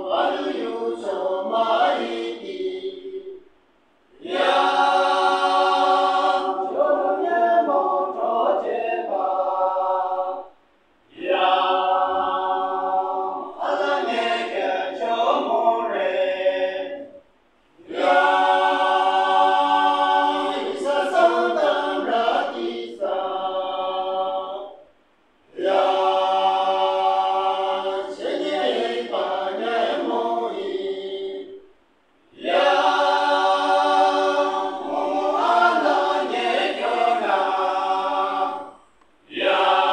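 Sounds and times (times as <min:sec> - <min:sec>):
men's choir singing a cappella: 0:00.0 - 0:03.4, 0:04.1 - 0:17.2, 0:17.8 - 0:24.9, 0:25.5 - 0:31.7, 0:32.3 - 0:39.9.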